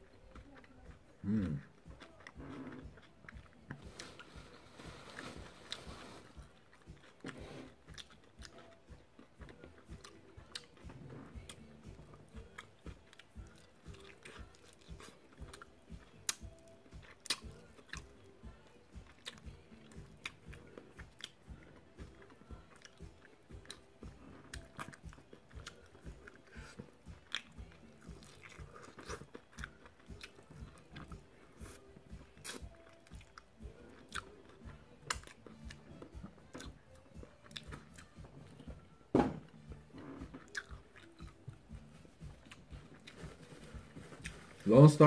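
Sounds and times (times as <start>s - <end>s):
person chewing crunchy food: 0.0s - 44.8s.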